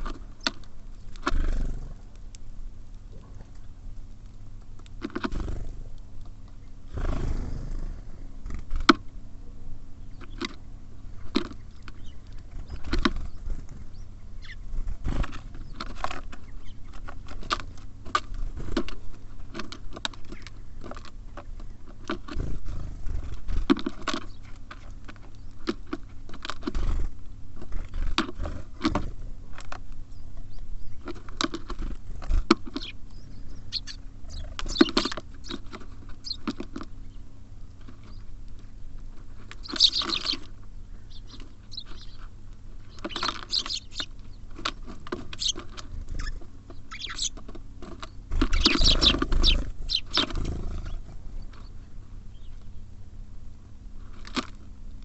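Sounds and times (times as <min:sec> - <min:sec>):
birds pecking at seed: 0:00.0 - 0:55.0
faint low hum: 0:00.0 - 0:55.0.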